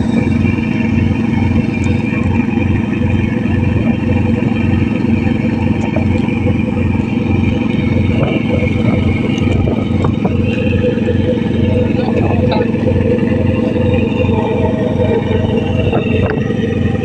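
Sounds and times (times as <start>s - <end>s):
boat diesel engine throbbing: 0.0s - 17.0s.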